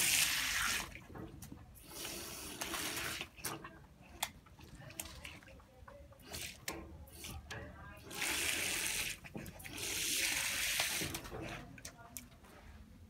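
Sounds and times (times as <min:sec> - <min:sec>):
hose water splashing on concrete: 0:00.0 - 0:12.1.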